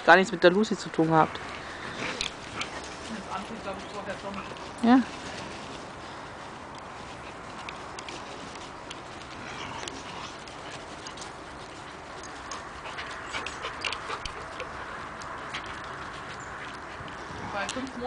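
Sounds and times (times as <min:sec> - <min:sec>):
dogs playing: 0:00.0 - 0:18.0
claws clicking on paving: 0:01.3 - 0:18.0.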